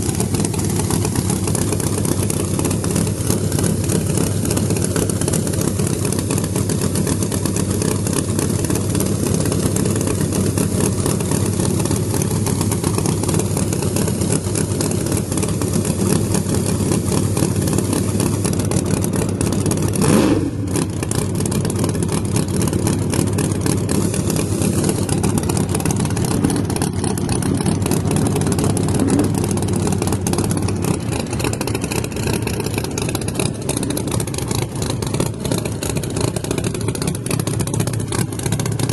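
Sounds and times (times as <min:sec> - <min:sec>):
engine rev: 0:00.0 - 0:38.9
race car engines running: 0:00.0 - 0:38.9.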